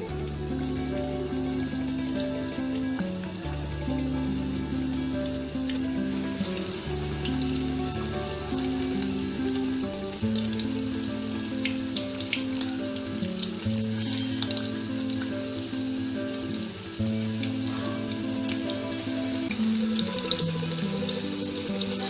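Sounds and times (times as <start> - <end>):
oil crackling: 0.0 - 22.0
prawns deep frying in oil: 0.0 - 22.0
slow background music: 0.0 - 22.0.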